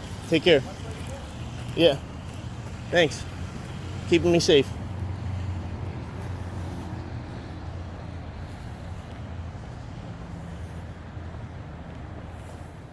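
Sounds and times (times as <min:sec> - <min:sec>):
traffic noise: 0:00.0 - 0:12.9
vehicle engine humming: 0:00.0 - 0:12.9.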